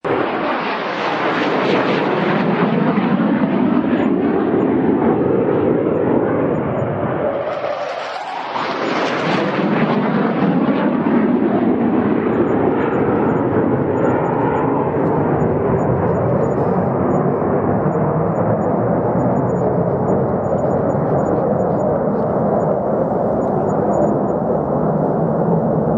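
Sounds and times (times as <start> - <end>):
fighter jet engine roar: 0.0 - 25.9.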